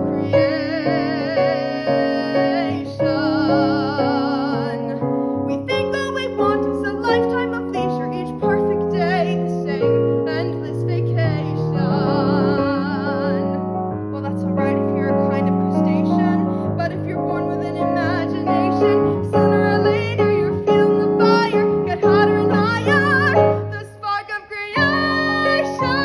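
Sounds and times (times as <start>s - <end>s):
piano accompaniment: 0.0s - 26.0s
woman singing: 0.0s - 26.0s.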